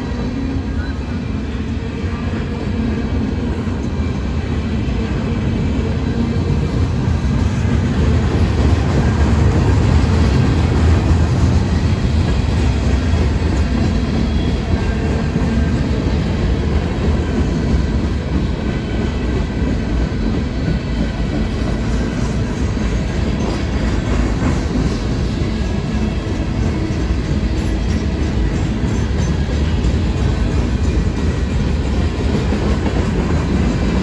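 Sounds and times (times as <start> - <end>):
freight train rumbling past: 0.0 - 34.0
wheels clickety-clack on rails: 0.0 - 34.0.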